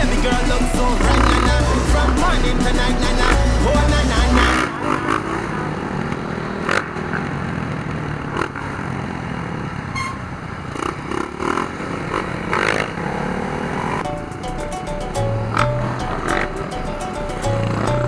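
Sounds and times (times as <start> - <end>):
dirt bike engines running: 0.0 - 18.0.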